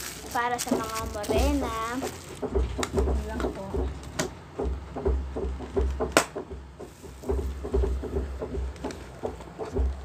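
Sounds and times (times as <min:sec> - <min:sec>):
knocking and banging on door: 0:00.7 - 0:10.0.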